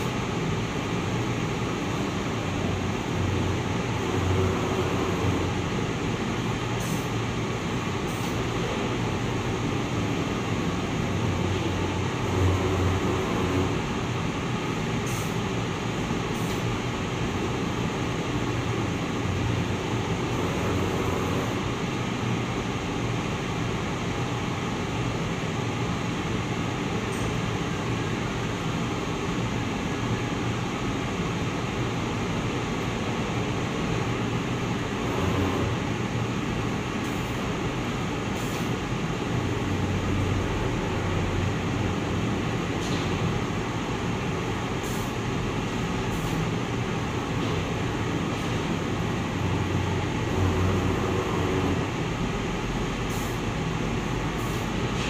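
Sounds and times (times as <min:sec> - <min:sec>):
machine whirring with low hum: 0:00.0 - 0:55.0.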